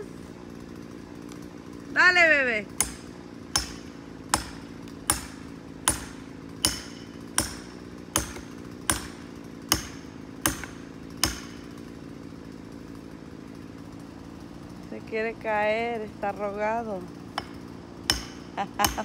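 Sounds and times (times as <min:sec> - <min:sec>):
chainsaw idling: 0:00.0 - 0:19.0.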